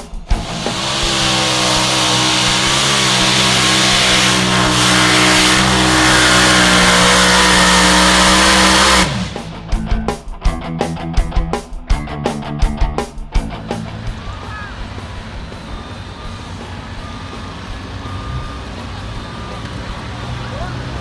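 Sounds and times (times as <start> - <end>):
engine at full throttle: 0.0 - 10.2, 13.4 - 21.0.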